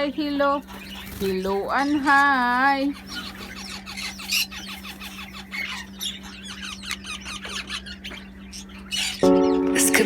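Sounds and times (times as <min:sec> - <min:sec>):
parrots chirping and chattering: 0:00.0 - 0:10.0.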